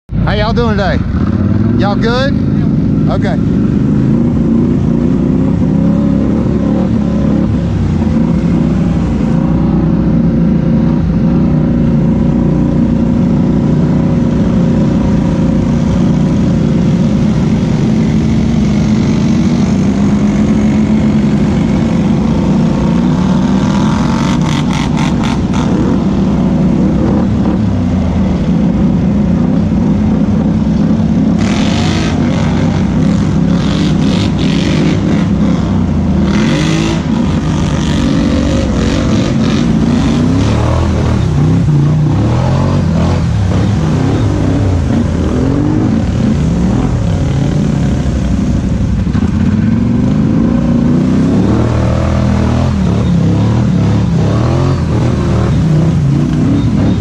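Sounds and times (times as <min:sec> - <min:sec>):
atv engine running: 0:00.1 - 0:57.0.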